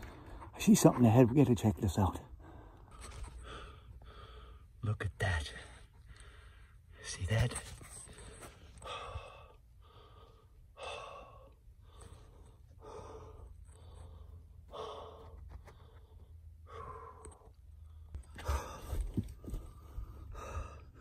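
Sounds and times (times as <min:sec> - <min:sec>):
man breathing heavily: 0:00.0 - 0:01.2, 0:02.3 - 0:04.8, 0:05.6 - 0:07.2, 0:08.0 - 0:21.0.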